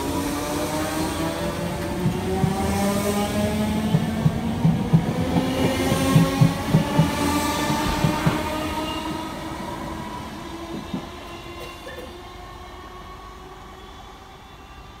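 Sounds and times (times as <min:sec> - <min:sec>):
electric train departing: 0:00.0 - 0:15.0.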